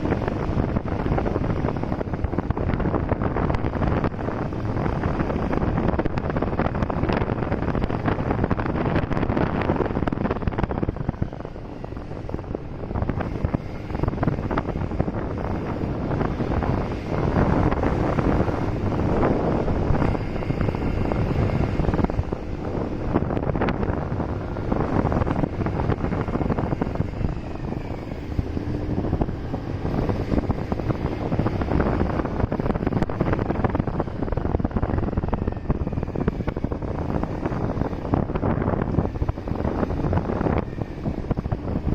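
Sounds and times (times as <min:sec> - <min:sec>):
motorcycle engine: 0:00.0 - 0:41.9
road noise: 0:00.0 - 0:41.9
wind buffeting microphone: 0:00.0 - 0:41.9.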